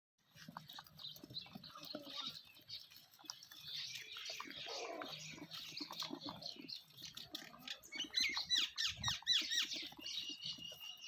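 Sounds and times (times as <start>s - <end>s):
animals crunching and chewing: 0.2s - 11.0s.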